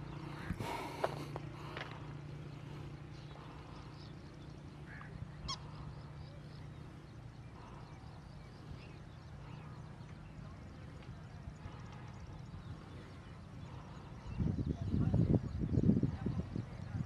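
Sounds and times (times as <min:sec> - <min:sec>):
short bird calls: 0:00.0 - 0:14.4
steady low hum: 0:00.0 - 0:17.0.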